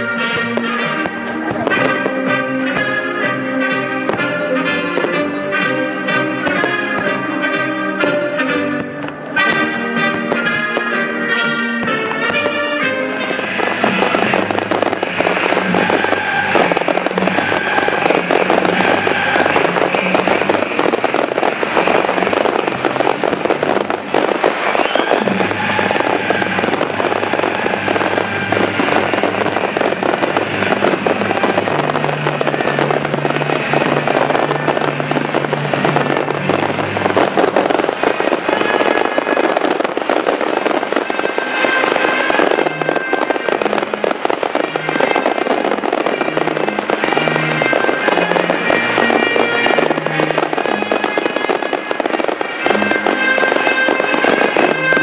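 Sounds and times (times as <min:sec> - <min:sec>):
fireworks crackling and popping: 0:00.0 - 0:55.0
loud music: 0:00.0 - 0:55.0.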